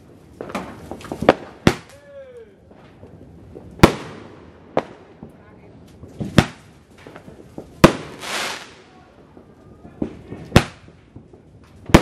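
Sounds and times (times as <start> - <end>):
small firework pops: 0.0 - 4.2, 4.8 - 12.0.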